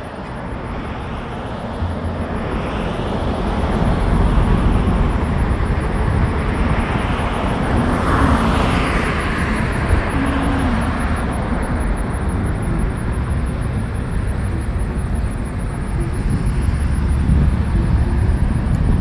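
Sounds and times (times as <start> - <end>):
low outdoor rumbling: 0.2 - 19.0.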